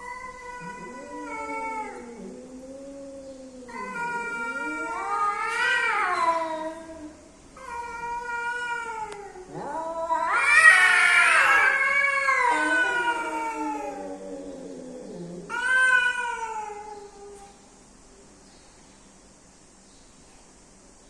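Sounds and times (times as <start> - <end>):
cats caterwauling: 0.0 - 17.6.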